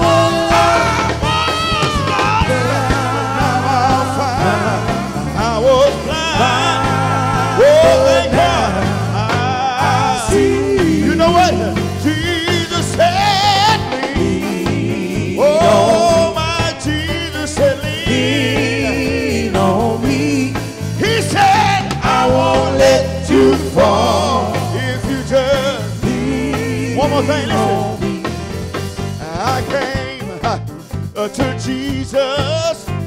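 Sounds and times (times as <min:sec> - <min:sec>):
vocal group singing with vibrato: 0:00.0 - 0:32.9
live band playing: 0:00.0 - 0:33.0.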